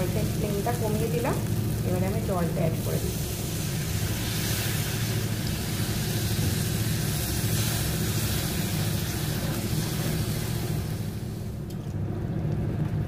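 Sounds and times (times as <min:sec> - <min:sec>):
water sizzling in hot oil: 0:00.0 - 0:11.6.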